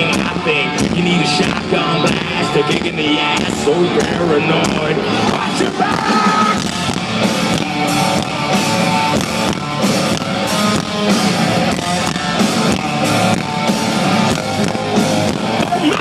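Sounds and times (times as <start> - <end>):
drum kit beat: 0.0 - 16.0
electric guitar riff: 0.0 - 16.0.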